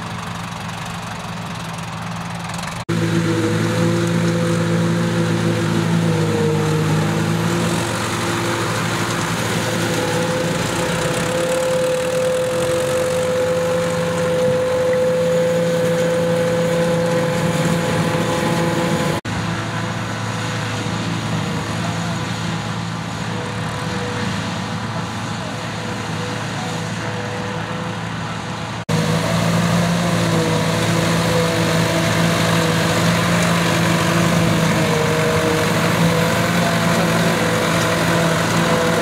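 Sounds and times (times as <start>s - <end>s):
forage harvester whine: 0.0s - 39.0s
tractor engines running: 0.0s - 39.0s.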